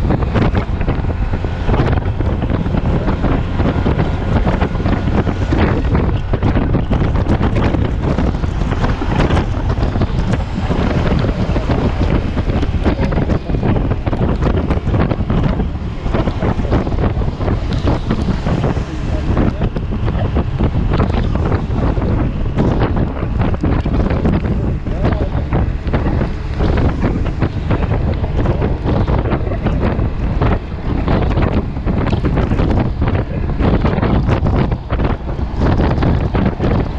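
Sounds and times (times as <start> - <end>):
rain spatter crackles: 0.0 - 36.9
wind rushing over microphone: 0.0 - 36.9.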